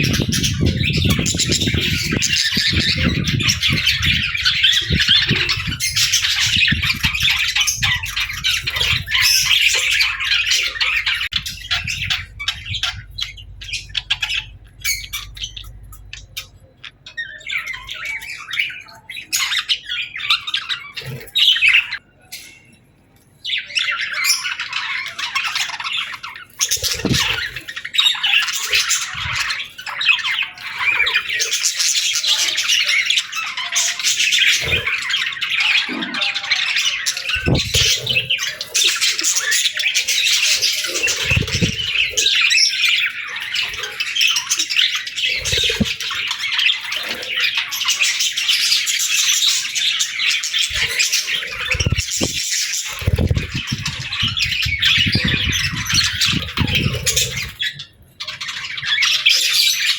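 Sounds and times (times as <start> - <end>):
budgerigars chattering and squawking: 0.0 - 22.8, 23.4 - 59.9.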